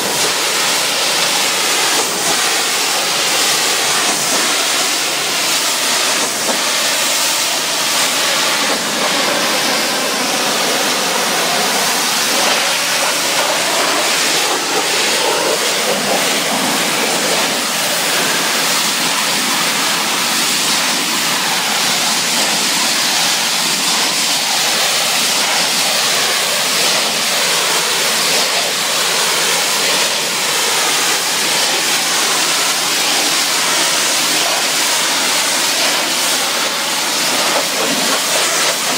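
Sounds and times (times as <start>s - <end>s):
pressure washer spray hissing: 0.0s - 38.9s.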